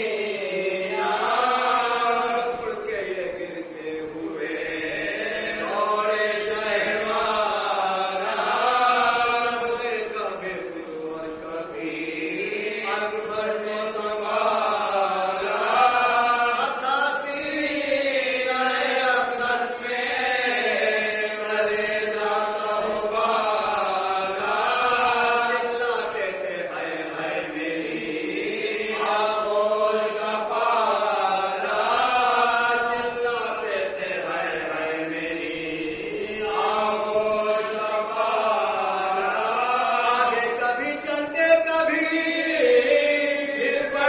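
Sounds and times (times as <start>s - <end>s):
men chanting together: 0.0s - 44.0s.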